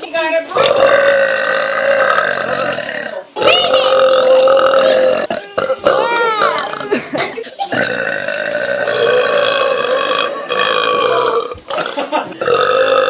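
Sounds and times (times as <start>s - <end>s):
woman belching: 0.6s - 13.0s.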